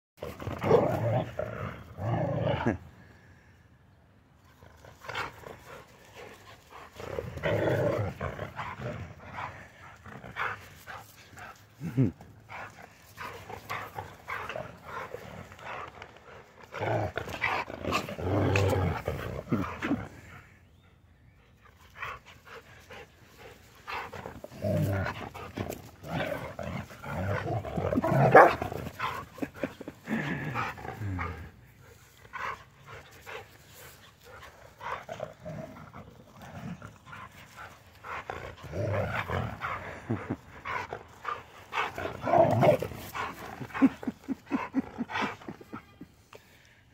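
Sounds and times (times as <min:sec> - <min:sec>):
dogs growling: 0:00.2 - 0:03.1, 0:04.4 - 0:20.6, 0:21.8 - 0:46.5.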